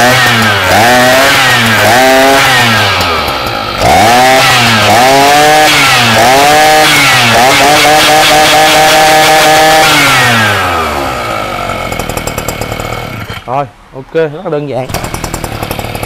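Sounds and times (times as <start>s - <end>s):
brush cutter engine revving: 0.0s - 13.6s, 14.7s - 16.0s.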